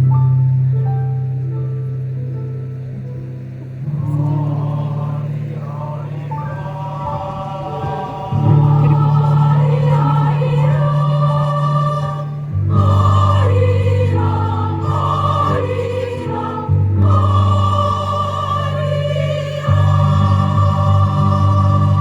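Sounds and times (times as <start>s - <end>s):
instrumental accompaniment: 2.4s - 22.0s
choir singing: 3.9s - 22.0s.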